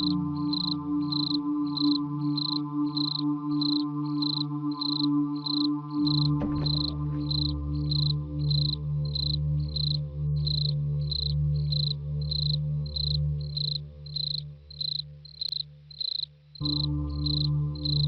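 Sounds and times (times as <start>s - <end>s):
low steady drone: 0.0s - 15.4s, 16.6s - 18.0s
cricket chirping: 0.0s - 18.0s.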